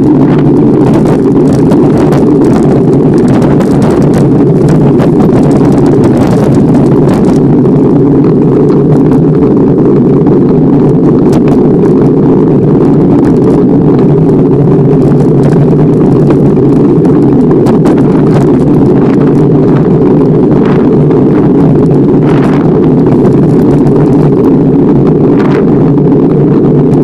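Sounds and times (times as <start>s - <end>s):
wind rumble on microphone: 0.0s - 27.0s.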